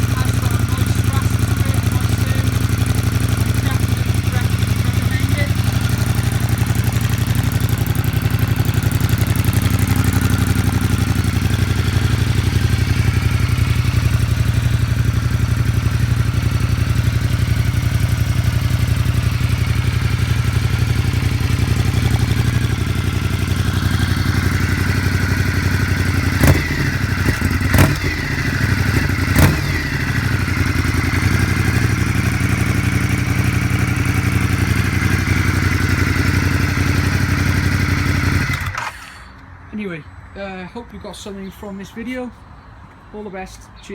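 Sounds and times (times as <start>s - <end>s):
motorcycle engine idling: 0.0s - 39.4s.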